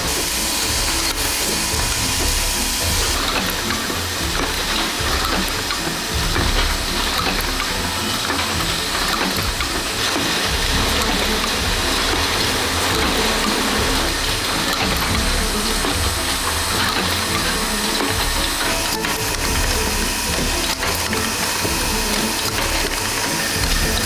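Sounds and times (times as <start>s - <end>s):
light mechanical clatter: 0.0s - 24.0s
machinery hiss: 0.0s - 24.0s.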